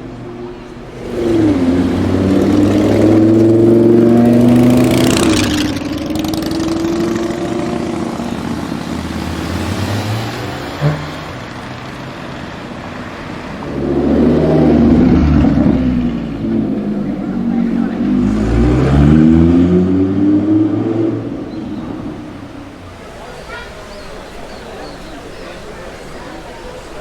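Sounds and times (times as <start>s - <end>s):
sports car engine accelerating: 0.2s - 23.0s.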